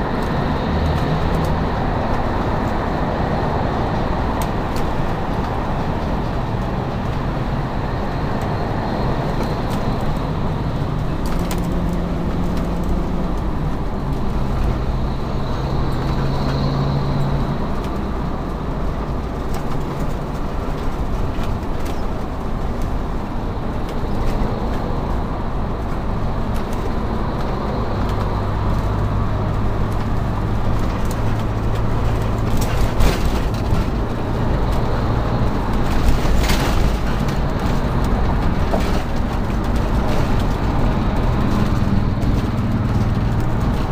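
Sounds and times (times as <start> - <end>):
road and engine noise: 0.0 - 43.9.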